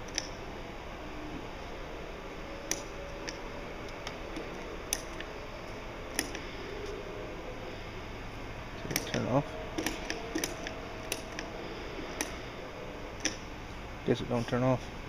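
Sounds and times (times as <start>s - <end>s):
indoor background noise: 0.0s - 15.0s.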